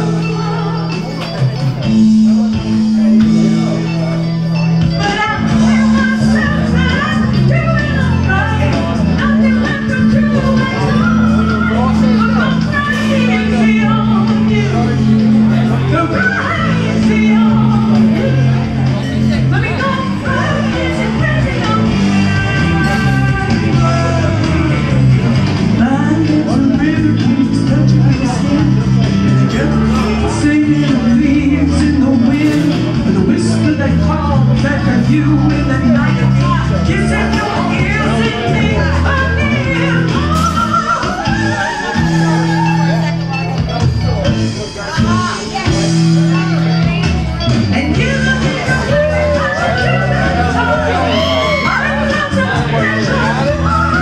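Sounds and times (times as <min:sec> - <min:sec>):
woman singing karaoke: 0:00.0 - 0:03.6, 0:04.9 - 0:43.3, 0:44.9 - 0:54.0
backing track of held notes: 0:00.0 - 0:54.0.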